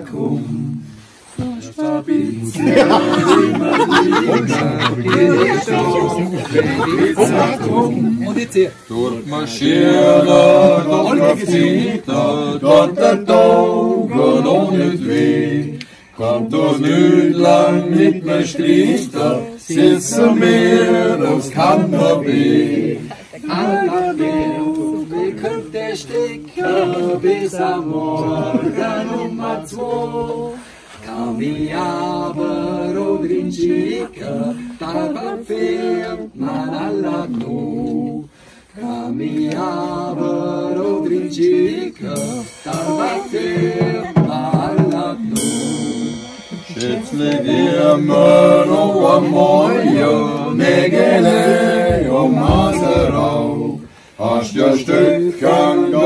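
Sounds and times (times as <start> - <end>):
group singing in harmony: 0.0 - 56.0.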